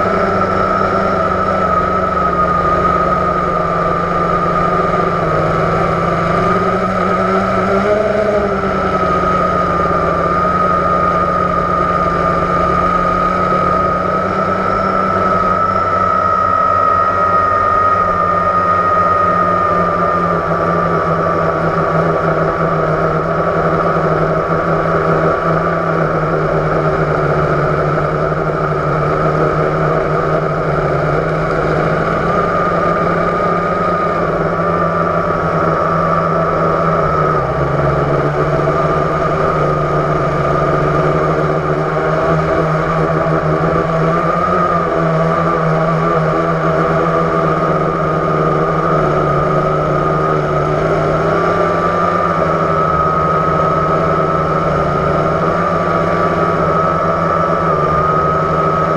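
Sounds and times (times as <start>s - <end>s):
quadcopter motors whining: 0.0s - 58.9s.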